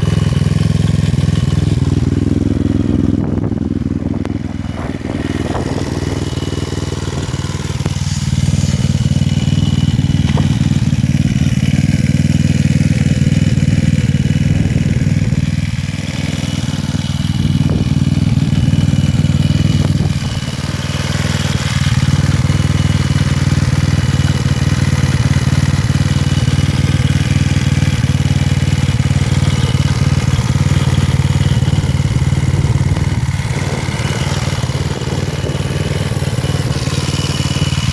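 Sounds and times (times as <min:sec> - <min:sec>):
scooter engine running: 0:00.0 - 0:37.9.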